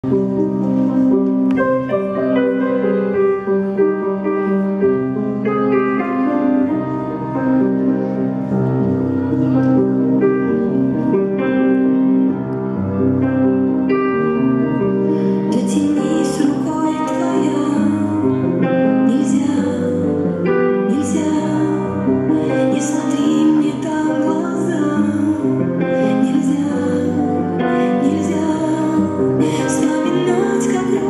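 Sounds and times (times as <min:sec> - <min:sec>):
slow gentle instrumental music: 0:00.0 - 0:31.0.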